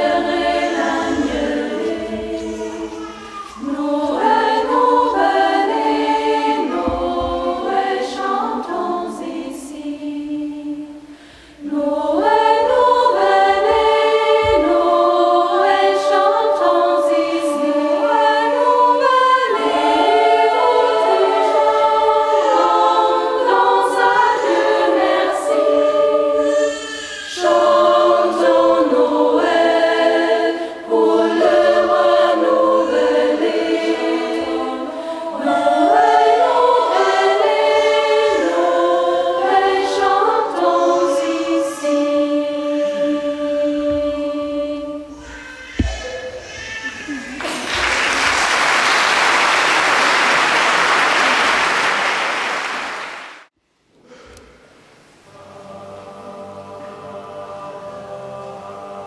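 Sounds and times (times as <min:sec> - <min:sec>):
women's choir singing: 0:00.0 - 0:46.0, 0:55.3 - 0:59.0.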